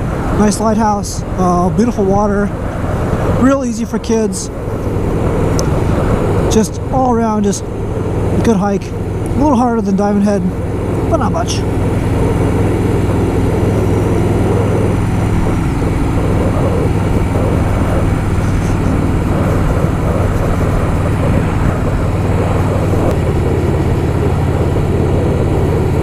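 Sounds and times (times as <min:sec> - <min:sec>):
motorcycle engine cruising: 0:00.0 - 0:26.0
wind noise on microphone: 0:00.0 - 0:26.0.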